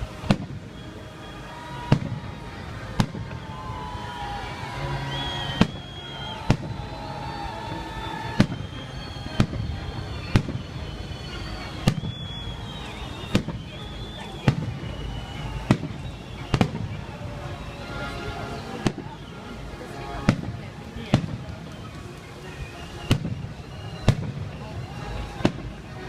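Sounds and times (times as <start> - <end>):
fireworks bangs: 0.0 - 4.4, 5.1 - 17.7, 18.6 - 19.2, 20.2 - 21.9, 22.7 - 26.0.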